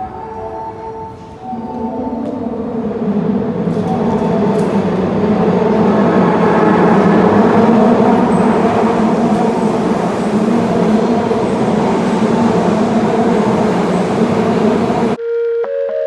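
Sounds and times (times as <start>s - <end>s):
subway train rumbling: 0.0s - 15.2s.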